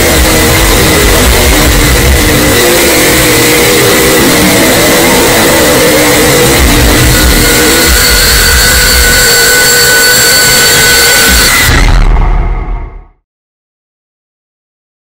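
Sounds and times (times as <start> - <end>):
distorted jumpscare sound effect: 0.0 - 13.1.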